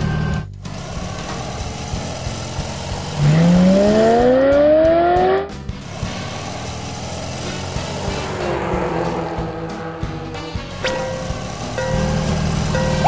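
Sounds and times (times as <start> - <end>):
engine revving sound effect: 0.0 - 13.0
background music: 0.1 - 13.0.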